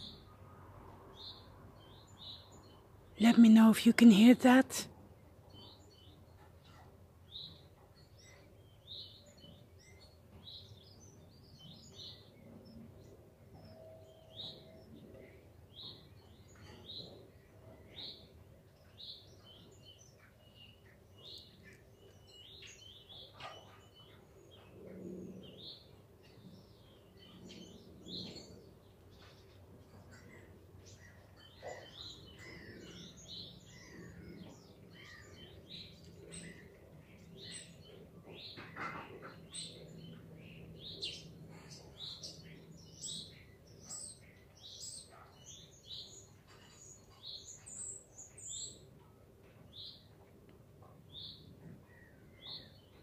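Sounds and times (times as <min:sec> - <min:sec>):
low steady background hum: 0:00.0 - 0:53.0
songbirds chirping and twittering: 0:00.0 - 0:53.0.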